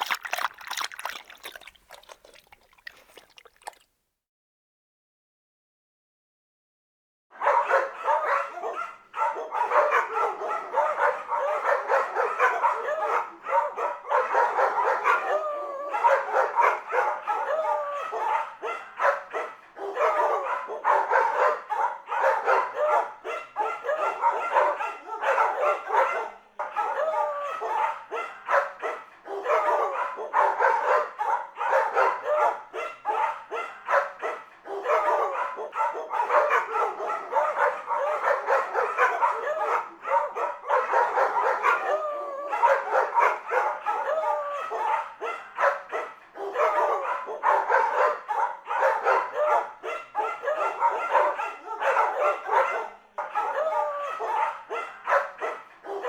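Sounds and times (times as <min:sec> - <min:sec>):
dog barking and yipping: 0:07.4 - 0:15.3, 0:16.0 - 0:56.0.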